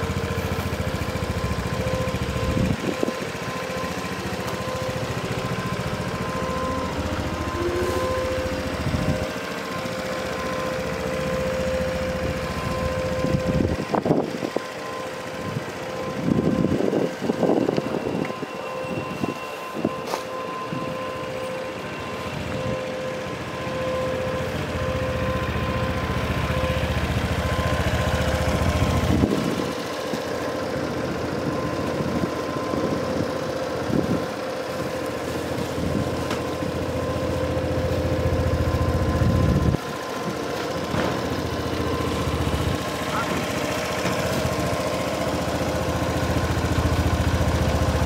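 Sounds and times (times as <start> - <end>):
scooter engine idling: 0.0 - 48.0.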